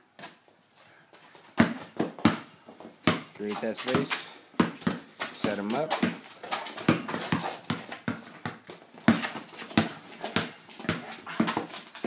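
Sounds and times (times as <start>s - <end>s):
basketball bouncing on court floor: 1.6s - 11.9s.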